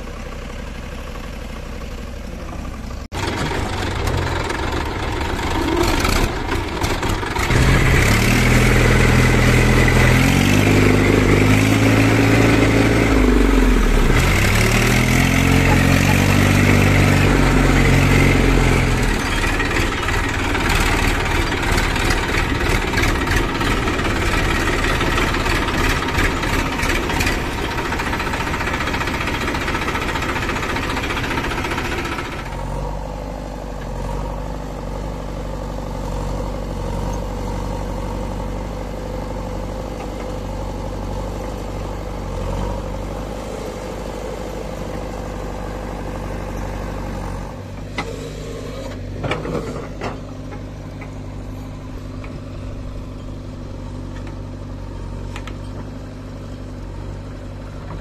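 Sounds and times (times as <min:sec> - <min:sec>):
engine rattles: 0:00.0 - 0:58.0
tractor diesel engine revving: 0:00.0 - 0:58.0.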